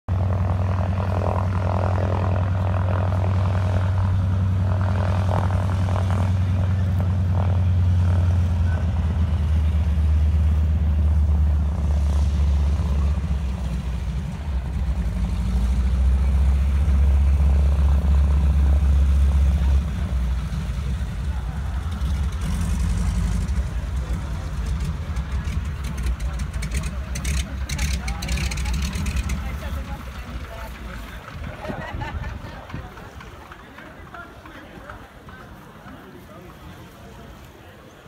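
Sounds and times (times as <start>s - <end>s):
propeller plane engine droning: 0.1s - 38.0s.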